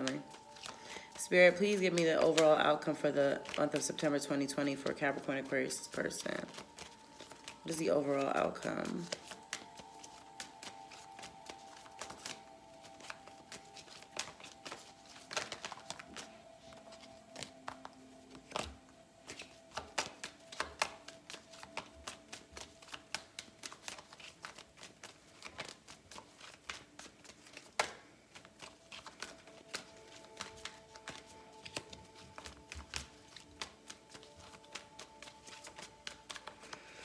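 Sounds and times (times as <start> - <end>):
cards being shuffled: 0.0 - 37.0
faint background music: 0.0 - 37.0.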